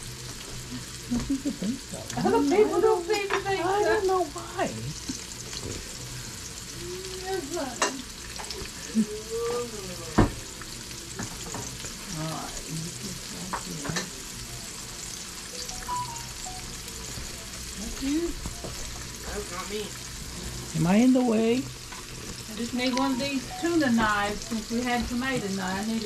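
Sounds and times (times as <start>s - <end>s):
tomato slices sizzling in oil: 0.0s - 26.0s.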